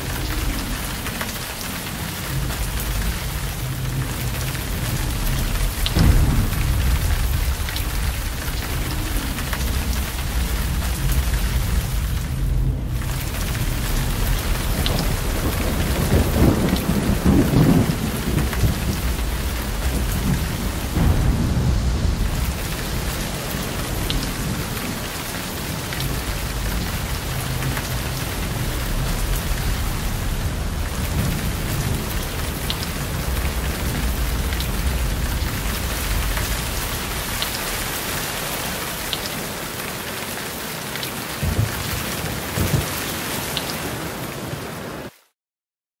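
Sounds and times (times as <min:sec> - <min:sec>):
low thunder rumbles: 0:00.0 - 0:40.2, 0:41.3 - 0:43.2
heavy rain: 0:00.0 - 0:45.4.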